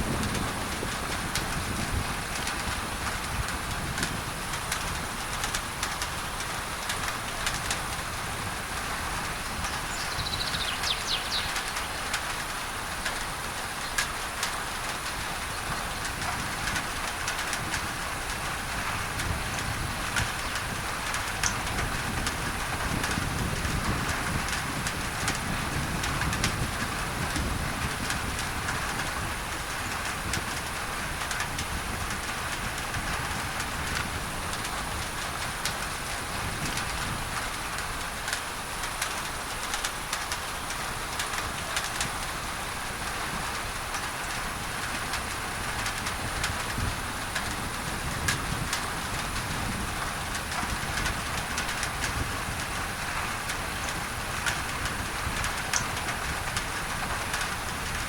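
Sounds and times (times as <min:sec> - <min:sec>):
pink noise hiss: 0:00.0 - 0:58.0
rain drumming on a tin roof: 0:00.0 - 0:58.0.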